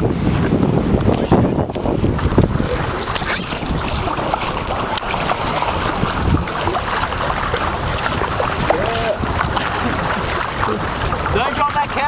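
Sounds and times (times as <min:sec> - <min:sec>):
water splashing along hulls: 0:00.0 - 0:12.0
wind buffeting microphone: 0:00.0 - 0:12.0.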